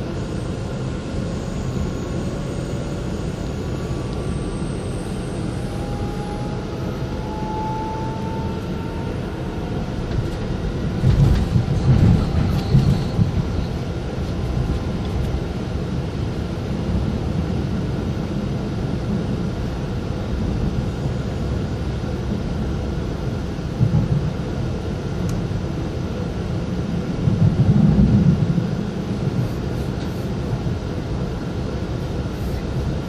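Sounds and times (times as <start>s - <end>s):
train cabin low rumble: 0.0s - 33.0s.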